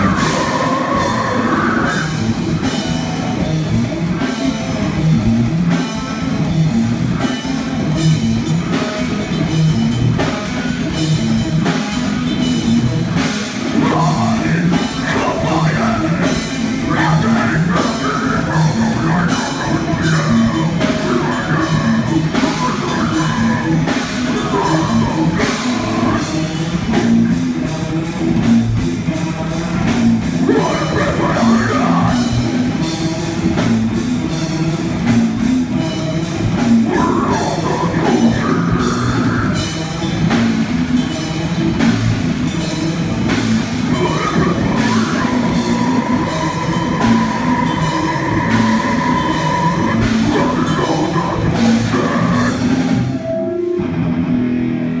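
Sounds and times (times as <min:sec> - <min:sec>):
drum kit pounding: 0:00.0 - 0:54.1
rock band playing: 0:00.0 - 0:55.0.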